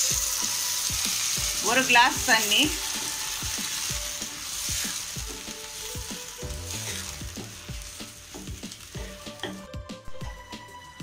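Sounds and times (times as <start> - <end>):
water sizzling in a hot pan: 0.0 - 10.8.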